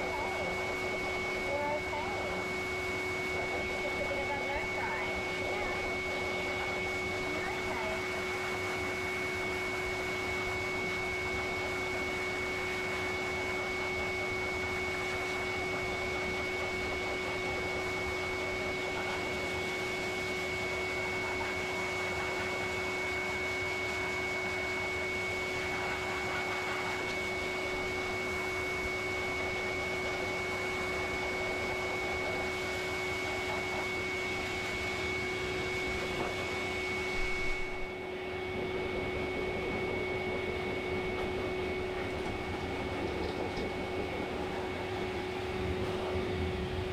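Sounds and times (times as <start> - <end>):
grooming dryer blowing air: 0.0 - 46.9.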